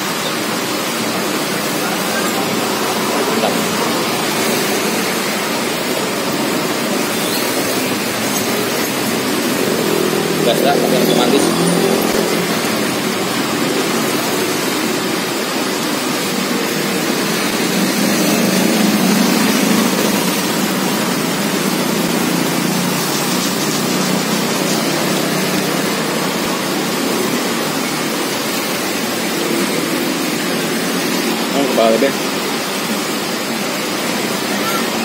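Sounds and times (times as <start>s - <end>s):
loud rushing noise: 0.0s - 35.0s.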